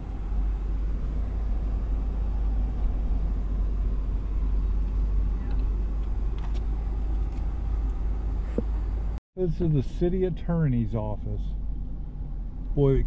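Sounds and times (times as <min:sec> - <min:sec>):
truck engine rumble from inside: 0:00.0 - 0:13.0.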